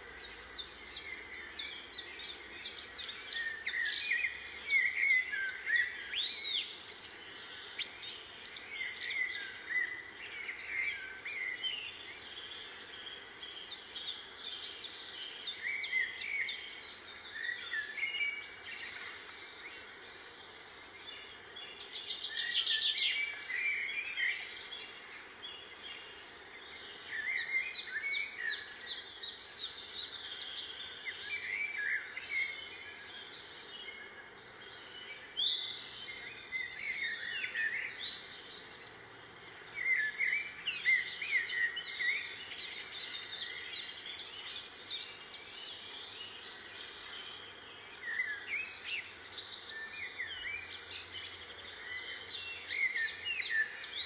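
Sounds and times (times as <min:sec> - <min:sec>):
birds chirping and trilling: 0:00.0 - 0:54.0
steady outdoor hiss: 0:00.0 - 0:54.0.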